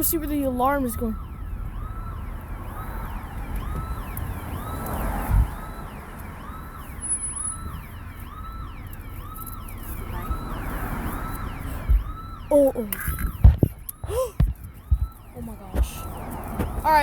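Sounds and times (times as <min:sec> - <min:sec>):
security alarm siren whooping: 0:00.0 - 0:17.0
vehicle low rumble: 0:00.0 - 0:17.0.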